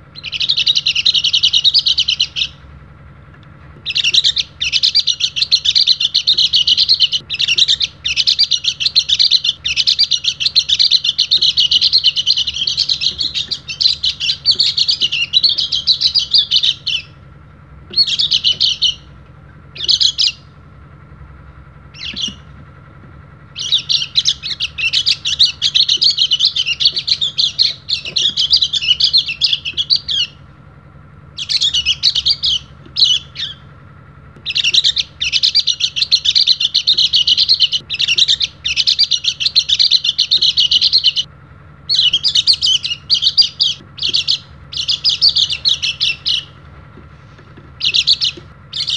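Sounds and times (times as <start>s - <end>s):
faint steady hum: 0.0s - 48.9s
bird singing in high chirps: 0.1s - 2.6s, 3.8s - 17.2s, 17.9s - 20.6s, 21.8s - 22.6s, 23.5s - 30.5s, 31.4s - 33.7s, 34.4s - 41.3s, 41.9s - 46.6s, 47.8s - 48.9s.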